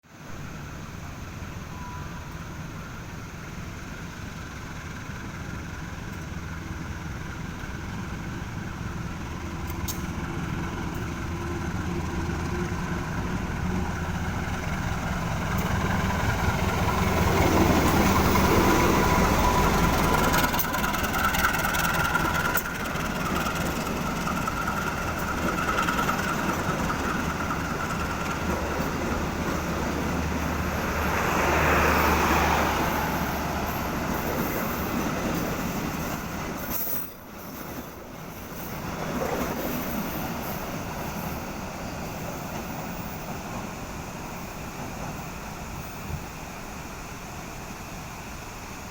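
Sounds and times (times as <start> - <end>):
diesel locomotive engine running: 0.2 - 48.9.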